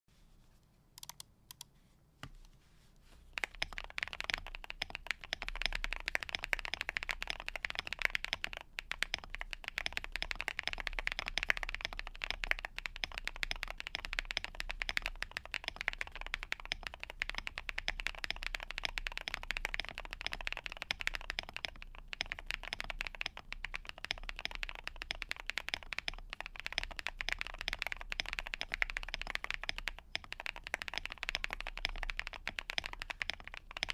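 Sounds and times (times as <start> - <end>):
mechanical keyboard typing: 1.0 - 1.7, 3.3 - 33.9.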